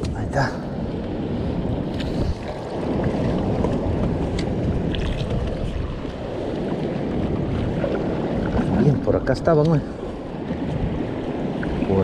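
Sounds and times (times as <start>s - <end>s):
sea noise: 0.0s - 12.0s
wind on microphone: 0.0s - 12.0s.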